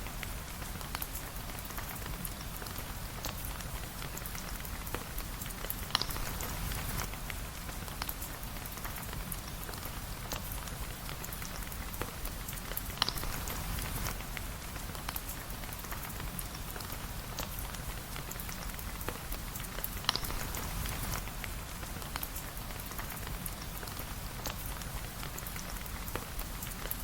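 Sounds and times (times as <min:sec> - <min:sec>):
rain drops ticking: 0:00.0 - 0:27.0.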